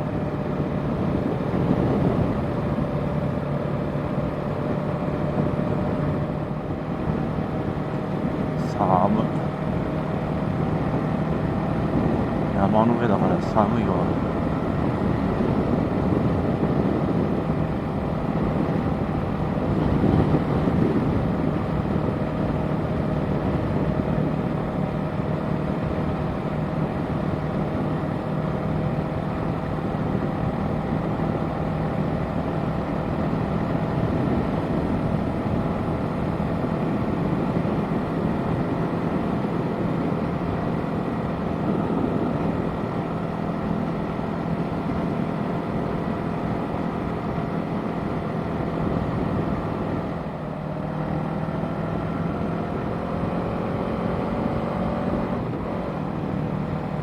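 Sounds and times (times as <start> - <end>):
motorcycle engine cruising: 0.0 - 57.0
wind rushing over microphone: 0.0 - 57.0.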